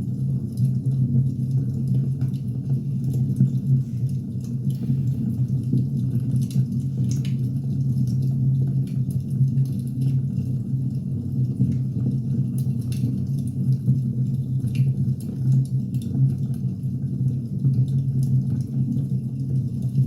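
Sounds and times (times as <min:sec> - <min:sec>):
low fire rumble: 0:00.0 - 0:20.0.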